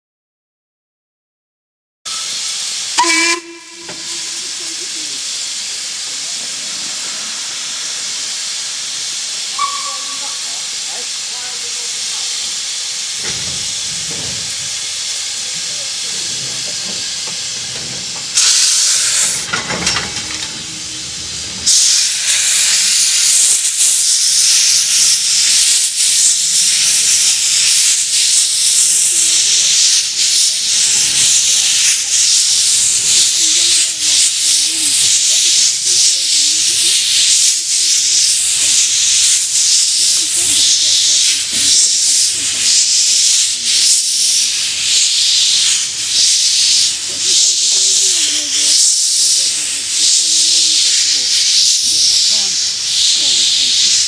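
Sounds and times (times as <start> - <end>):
loud burst of steam: 2.1 - 54.0
steam locomotive hissing: 2.1 - 54.0.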